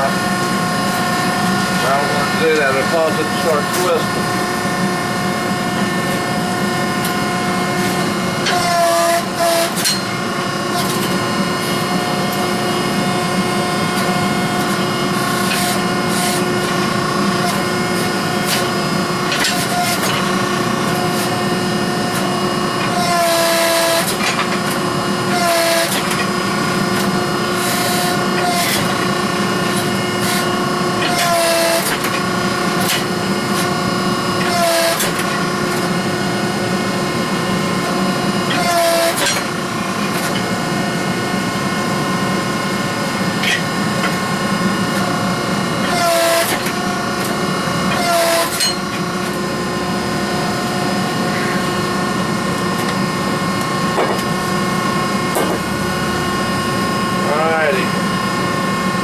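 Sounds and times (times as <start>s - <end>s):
hydraulic press pump hum: 0.0s - 59.0s.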